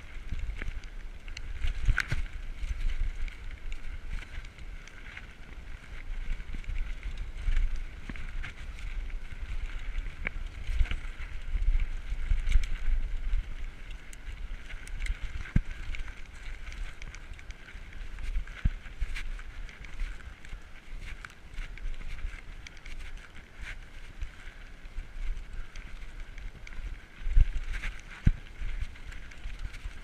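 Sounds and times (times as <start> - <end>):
bike rattling over rocks: 0.0 - 30.0
bike tyres on rocky dirt: 0.0 - 30.0
wind rumble on microphone: 0.0 - 30.0.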